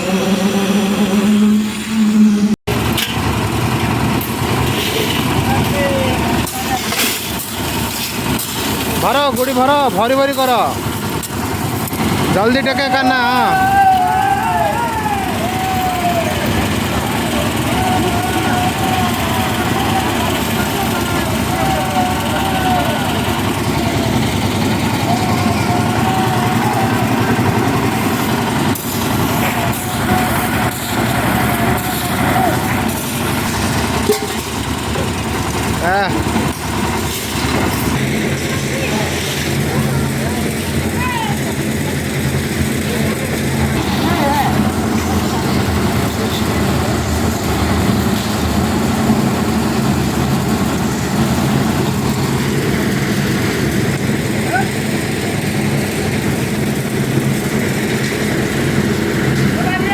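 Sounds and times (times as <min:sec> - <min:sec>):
concrete mixer engine rumbling: 0:00.0 - 0:59.9.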